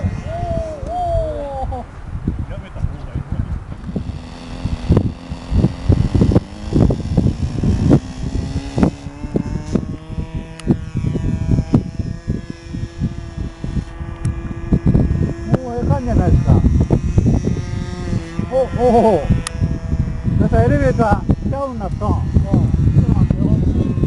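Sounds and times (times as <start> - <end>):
model airplane engine running: 0.0 - 1.9, 2.6 - 24.0
wind buffeting microphone: 0.0 - 24.0.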